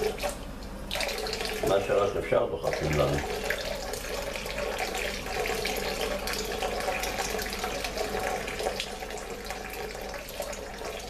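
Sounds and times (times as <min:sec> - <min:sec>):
tap running water: 0:00.0 - 0:11.0.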